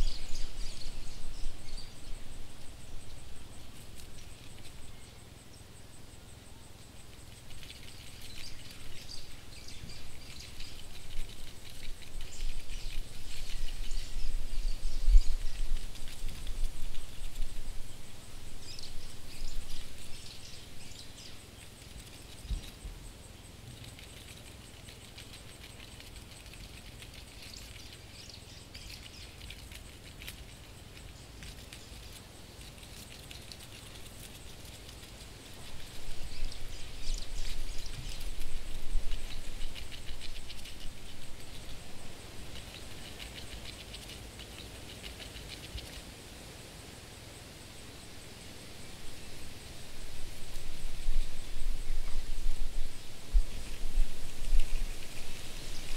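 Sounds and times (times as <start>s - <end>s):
cockroach legs skittering: 7.0s - 18.0s, 18.6s - 46.2s, 49.7s - 55.9s.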